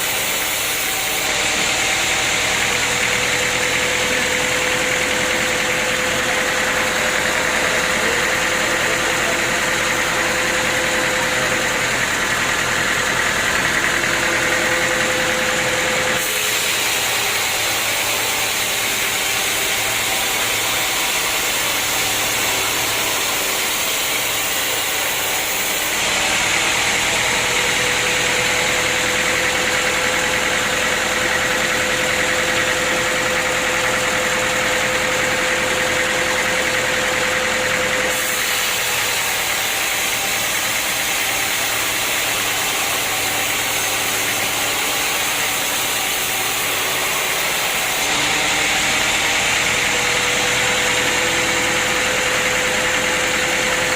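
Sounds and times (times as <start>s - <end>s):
constant machine whine: 0.0s - 53.9s
sawmill machinery droning: 0.0s - 53.9s.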